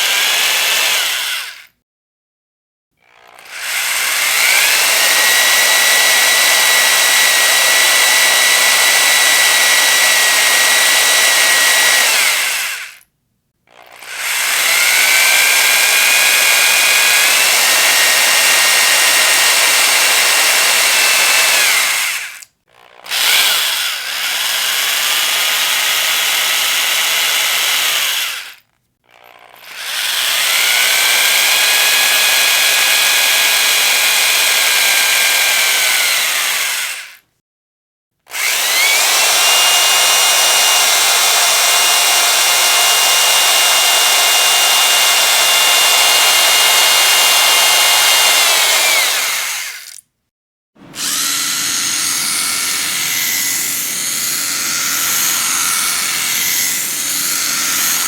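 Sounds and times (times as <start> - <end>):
electric drill whining: 0.0 - 1.7, 3.0 - 13.1, 13.7 - 37.2, 38.3 - 50.0, 50.8 - 58.0.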